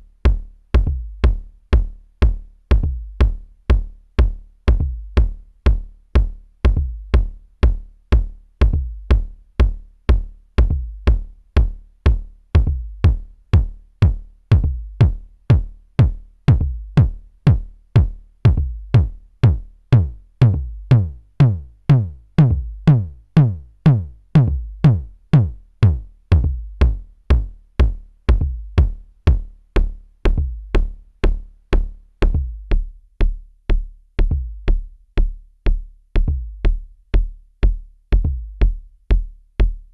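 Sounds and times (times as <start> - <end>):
electronic kick drum: 0.0 - 39.9.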